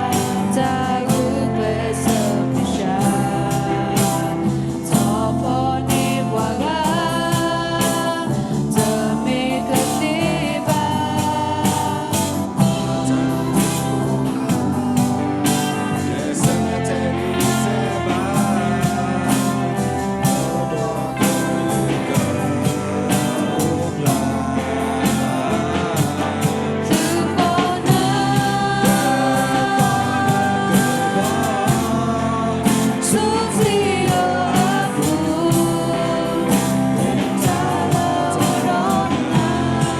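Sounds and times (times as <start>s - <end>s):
gospel song with beat: 0.0s - 39.9s.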